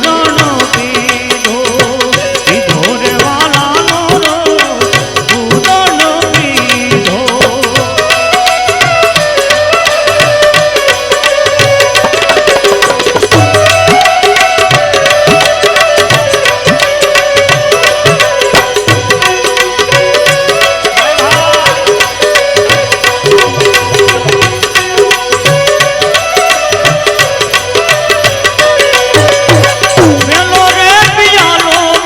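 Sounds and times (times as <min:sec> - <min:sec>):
devotional melody: 0:00.0 - 0:32.0.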